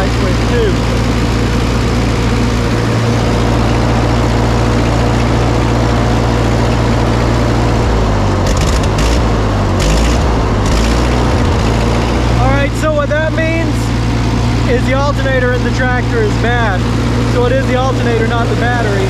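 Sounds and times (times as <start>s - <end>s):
engine crackles: 0.0s - 19.0s
tractor engine idling: 0.0s - 19.0s.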